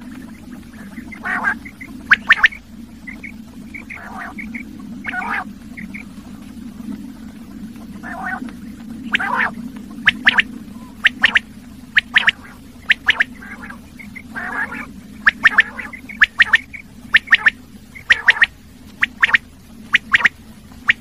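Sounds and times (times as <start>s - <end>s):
quail calling: 0.0s - 6.6s, 7.8s - 21.0s
steady low hum: 0.0s - 21.0s.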